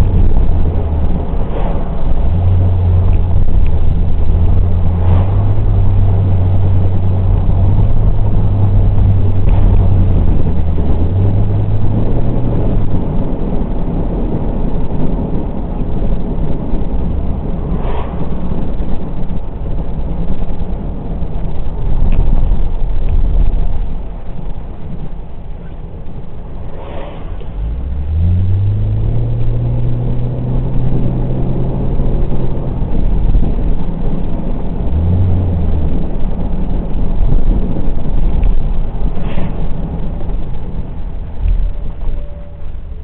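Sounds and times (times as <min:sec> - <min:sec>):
car engine accelerating: 0:00.0 - 0:43.0
constant low rumble: 0:00.0 - 0:43.0.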